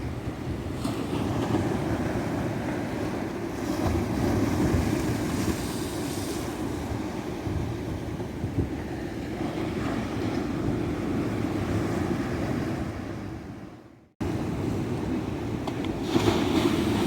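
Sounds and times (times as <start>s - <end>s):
ocean waves washing onto beach: 0.0s - 13.6s, 14.2s - 17.0s
wind on microphone: 0.0s - 17.0s.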